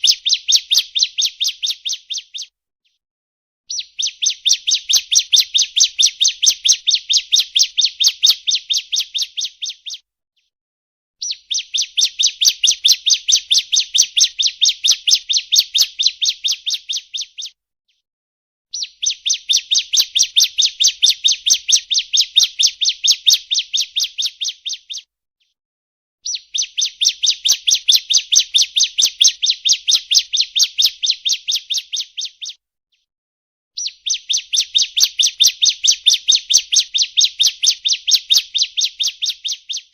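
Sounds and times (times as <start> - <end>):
bird song of fast high chirps: 0.0 - 3.0, 3.7 - 10.0, 11.2 - 17.6, 18.7 - 25.1, 26.2 - 32.6, 33.8 - 39.9.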